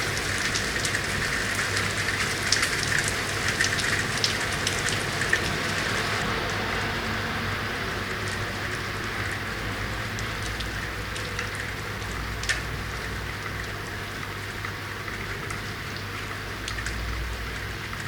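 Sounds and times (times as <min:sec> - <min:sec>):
rain on hard surfaces: 0:00.0 - 0:18.0.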